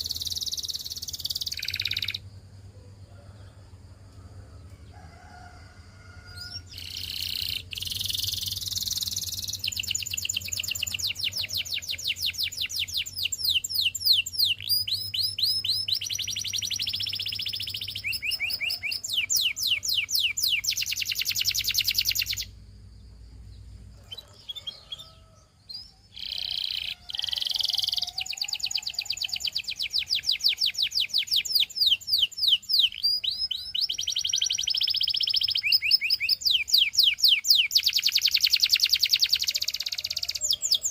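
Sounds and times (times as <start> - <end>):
canary singing trills: 0.0 - 2.3, 6.3 - 22.6, 23.3 - 40.9.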